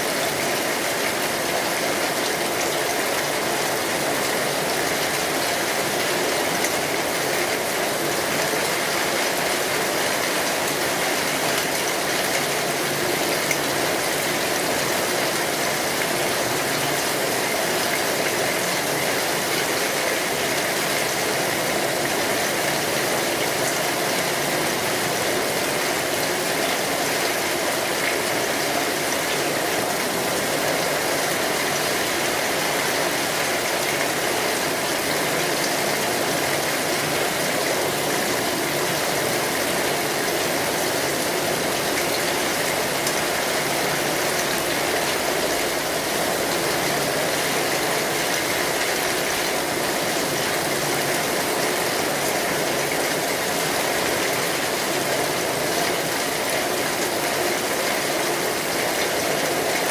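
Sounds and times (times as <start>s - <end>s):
heavy rain on an umbrella: 0.0s - 59.9s.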